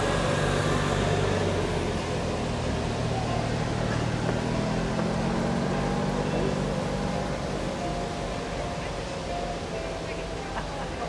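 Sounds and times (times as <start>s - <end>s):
background hiss: 0.0s - 11.0s
engine idling hum: 0.0s - 11.0s.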